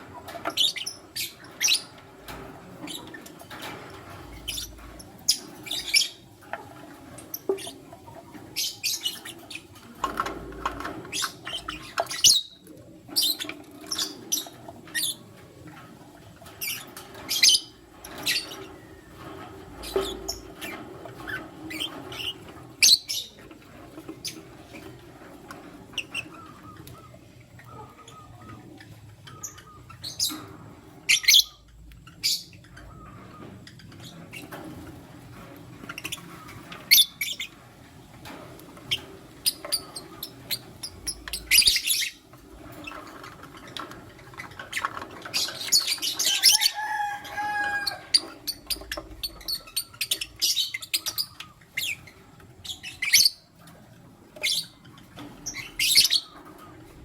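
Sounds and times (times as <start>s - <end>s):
lovebirds chirping: 4.3s - 15.4s, 16.4s - 34.6s, 38.9s - 53.6s, 54.3s - 57.0s.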